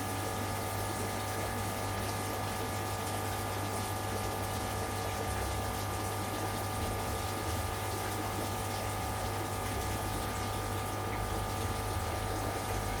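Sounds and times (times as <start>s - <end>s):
aquarium pump humming: 0.0s - 13.0s
moving water: 0.0s - 13.0s.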